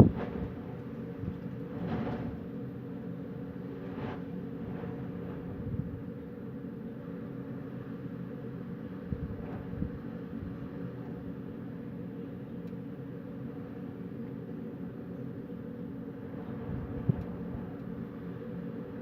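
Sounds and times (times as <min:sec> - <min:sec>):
faint steady hum: 0:00.0 - 0:19.0
low wind: 0:00.0 - 0:19.0.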